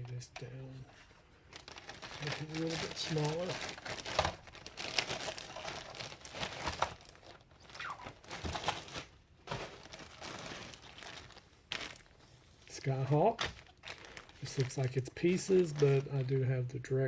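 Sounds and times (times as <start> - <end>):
packaging crinkling and rustling: 0.0 - 16.6.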